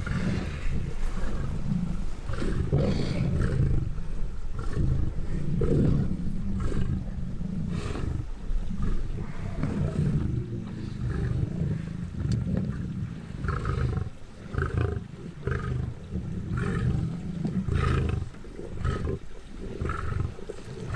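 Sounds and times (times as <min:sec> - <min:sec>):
lions growling and snarling: 0:00.0 - 0:20.9.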